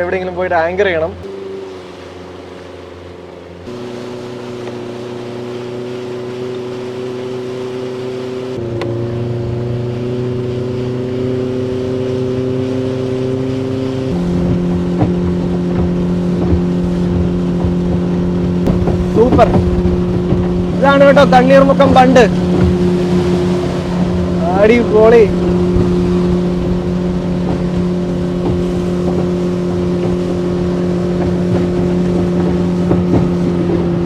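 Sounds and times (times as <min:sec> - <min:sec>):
boat motor droning: 0:00.0 - 0:34.0.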